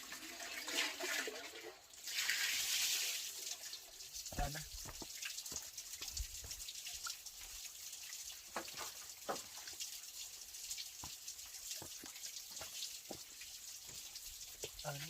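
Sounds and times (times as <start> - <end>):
water drips and splashes: 0.0 - 15.0
water running: 0.0 - 15.0.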